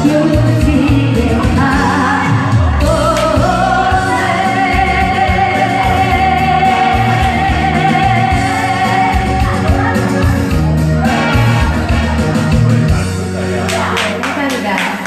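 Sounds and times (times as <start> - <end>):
band accompaniment with low beat: 0.0 - 15.0.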